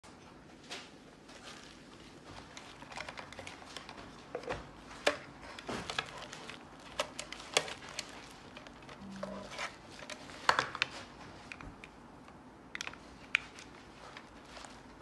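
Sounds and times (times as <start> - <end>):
bubble-wrap crinkling: 1.2 - 11.9, 12.8 - 15.0
clicks and knocks of handling: 2.2 - 14.8.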